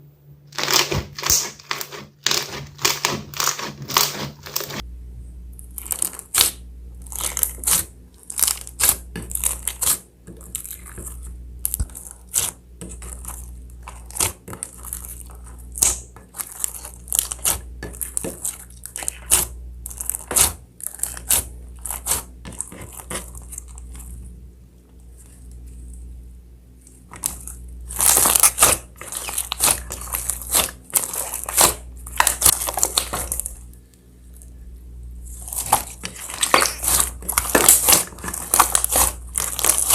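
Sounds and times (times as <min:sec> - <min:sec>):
slime crackling and popping: 0:00.5 - 0:04.8, 0:05.6 - 0:24.0, 0:27.1 - 0:33.6, 0:35.3 - 0:39.9.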